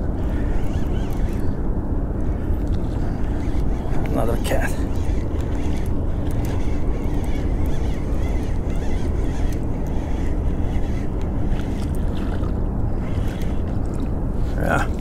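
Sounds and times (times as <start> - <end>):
wind buffeting microphone: 0.0 - 15.0
fishing reel clicking: 0.1 - 1.6, 2.6 - 14.0.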